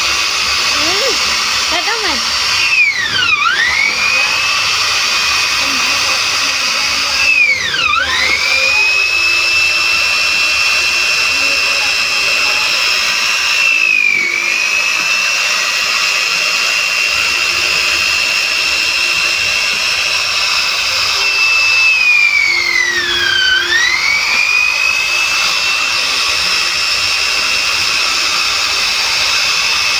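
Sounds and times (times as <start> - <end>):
router spindle whining: 0.0 - 29.9.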